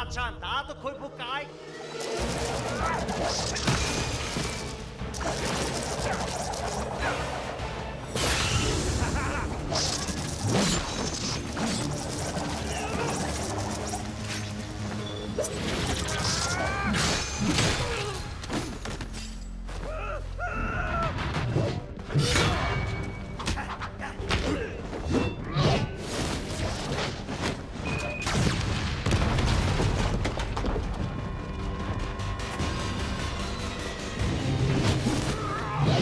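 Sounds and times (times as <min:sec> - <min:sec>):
background music: 0:00.0 - 0:36.0.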